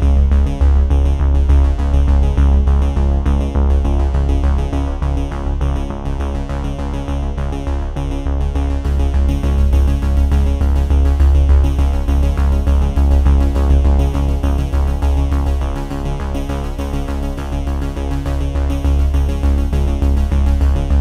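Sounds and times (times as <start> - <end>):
electronic music with heavy bass: 0.0 - 21.0.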